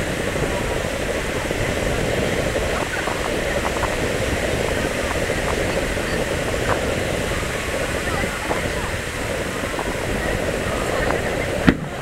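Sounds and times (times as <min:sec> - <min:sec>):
crowd noise: 0:00.0 - 0:12.0
scattered voices: 0:00.0 - 0:12.0.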